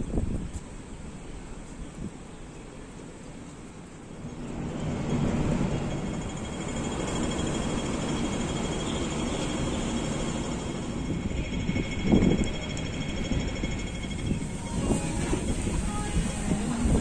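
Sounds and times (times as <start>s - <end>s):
road traffic rumble: 2.7s - 17.0s.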